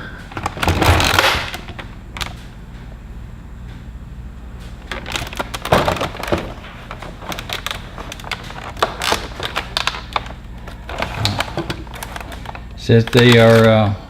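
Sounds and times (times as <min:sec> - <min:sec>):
plastic packaging crackling: 0:00.3 - 0:02.4, 0:04.8 - 0:14.0.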